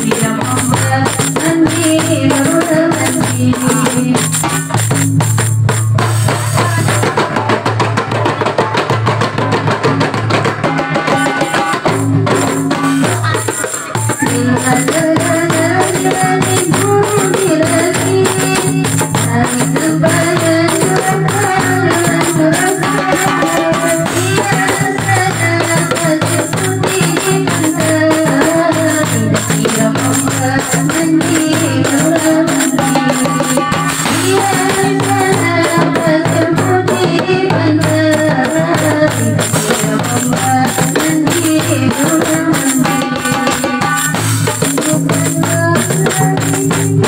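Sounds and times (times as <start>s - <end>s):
woman singing: 0.0s - 4.8s, 6.4s - 7.2s, 12.7s - 47.0s
hand drums: 0.0s - 47.0s
jingling tambourine: 0.0s - 47.0s.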